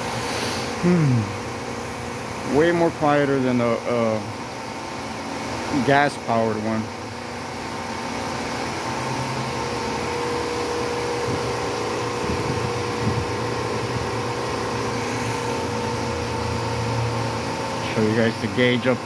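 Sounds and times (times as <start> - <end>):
hydraulic press motor humming: 0.0 - 19.0.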